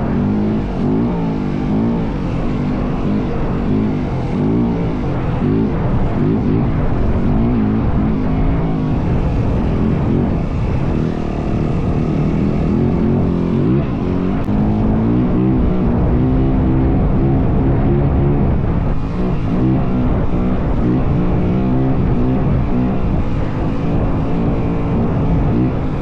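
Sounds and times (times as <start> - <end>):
dirt bike engine revving: 0.0 - 26.0
wind buffeting microphone: 0.0 - 26.0.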